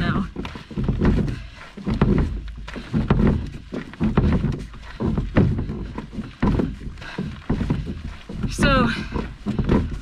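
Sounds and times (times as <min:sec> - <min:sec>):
canoe hull knocking: 0:00.0 - 0:10.0
footsteps: 0:00.0 - 0:10.0.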